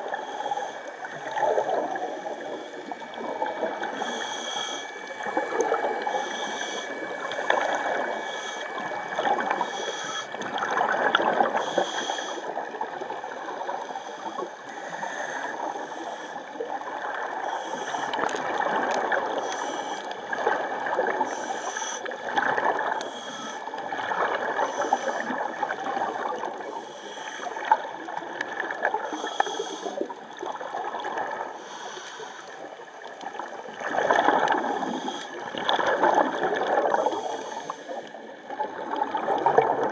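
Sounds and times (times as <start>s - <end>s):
water gurgling and bubbling: 0.0s - 39.9s.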